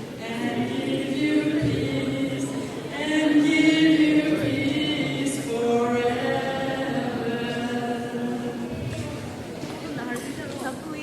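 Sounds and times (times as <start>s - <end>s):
voices singing a slow hymn: 0.0s - 9.4s.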